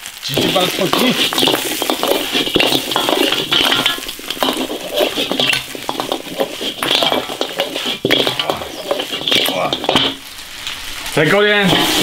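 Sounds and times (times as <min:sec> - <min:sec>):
food sizzling: 0:00.0 - 0:12.0
metal spatula scraping a wok: 0:00.3 - 0:10.6, 0:11.5 - 0:12.0.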